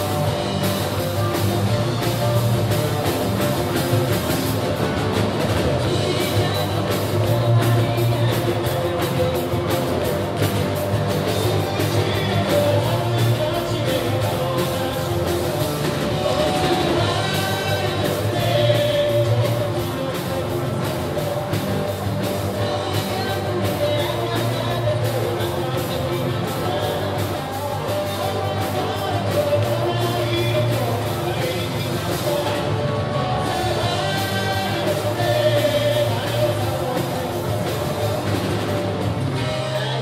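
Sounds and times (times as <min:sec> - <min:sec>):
live band playing pop song: 0:00.0 - 0:40.0
man singing: 0:05.5 - 0:40.0.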